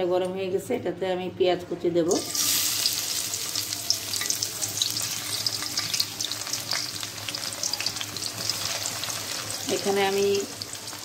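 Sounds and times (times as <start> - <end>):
onions sizzling in hot oil: 2.1 - 11.0.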